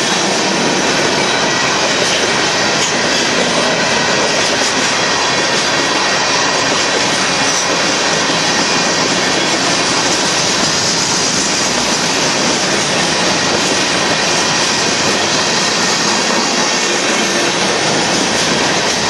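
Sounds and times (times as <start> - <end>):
train wheels roaring on rail: 0.0 - 19.0.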